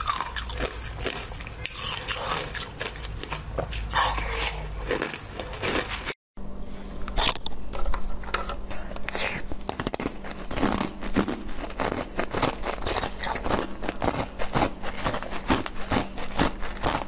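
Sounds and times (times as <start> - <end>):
crushed ice being chewed: 0.0 - 6.2, 9.0 - 17.0.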